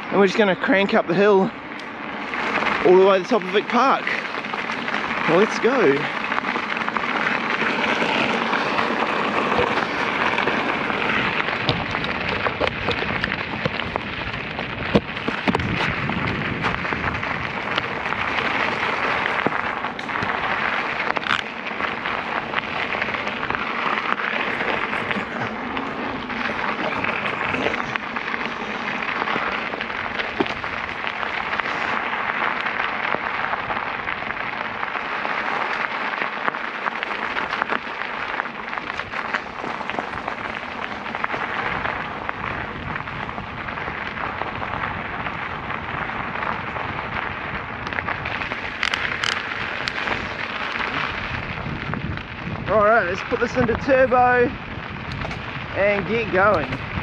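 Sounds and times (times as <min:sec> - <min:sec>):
bike rattling over bumps: 0:00.0 - 0:57.0
bike tyres crunching over track: 0:00.0 - 0:57.0.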